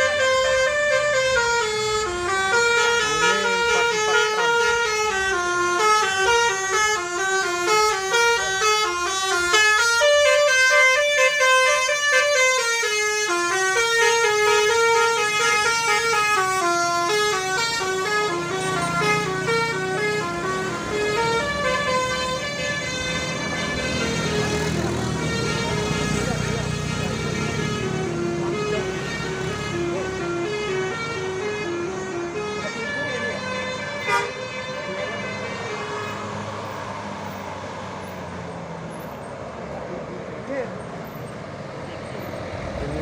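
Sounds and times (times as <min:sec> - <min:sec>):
bus melody horn playing tune: 0:00.0 - 0:36.8.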